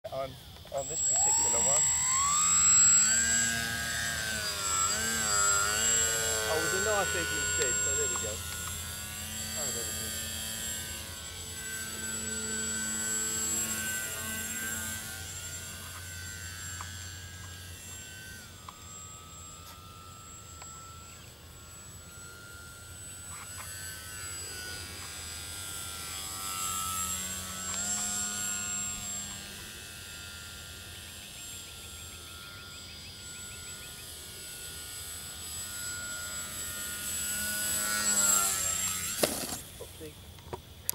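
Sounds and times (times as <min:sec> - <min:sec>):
model plane electric motor whine: 0:00.1 - 0:40.9.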